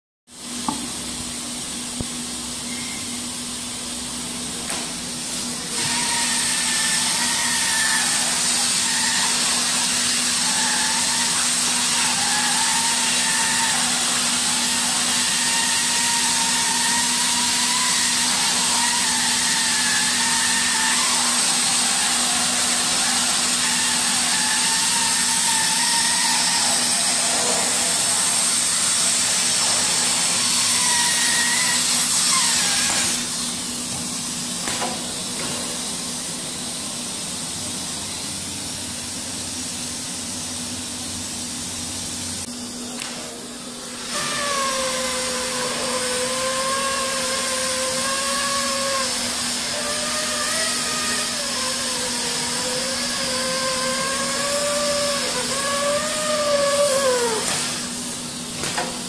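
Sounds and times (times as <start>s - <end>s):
hot air hissing: 0.4s - 59.0s
machine whine: 2.4s - 36.8s, 42.2s - 59.0s.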